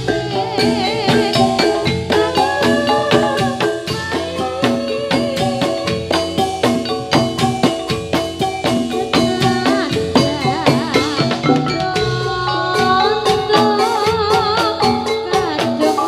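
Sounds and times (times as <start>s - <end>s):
person singing wavering melody: 0.0s - 7.7s, 8.4s - 16.0s
drums: 0.0s - 16.0s.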